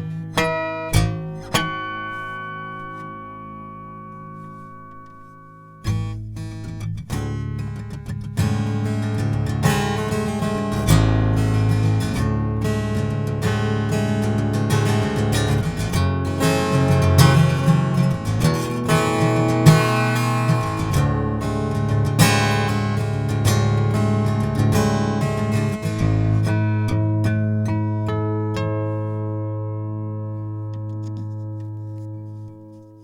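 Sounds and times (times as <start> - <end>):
acoustic guitar chords and notes: 0.0 - 33.0.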